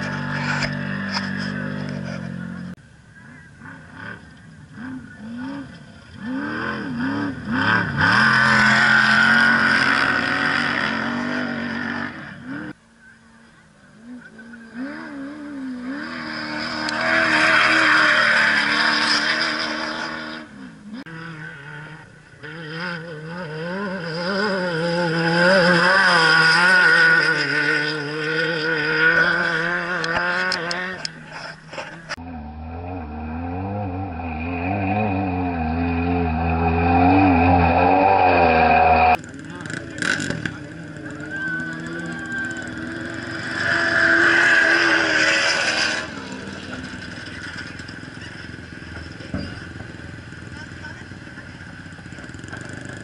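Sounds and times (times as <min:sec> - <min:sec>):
race car engine revving: 0:03.6 - 0:12.8, 0:14.0 - 0:53.0.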